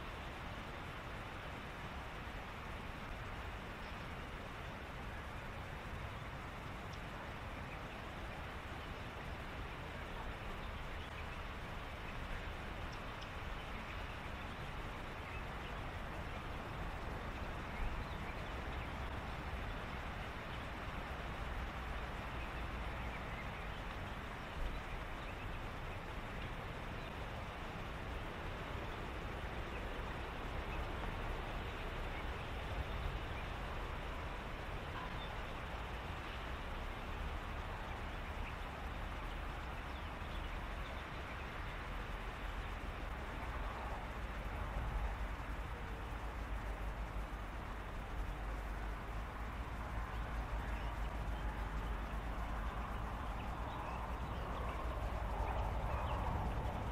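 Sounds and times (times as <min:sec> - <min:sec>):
steady hiss: 0:00.0 - 0:56.9.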